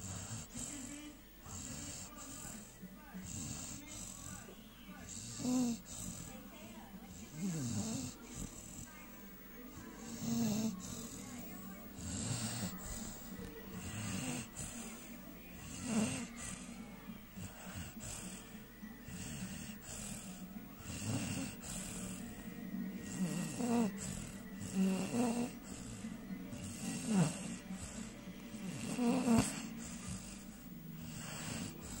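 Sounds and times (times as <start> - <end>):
dog snoring: 0.0 - 32.0.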